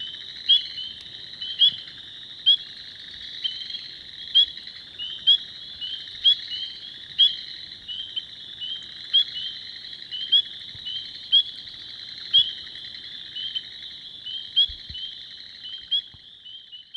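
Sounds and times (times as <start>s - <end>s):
frog chorus: 0.0s - 16.9s.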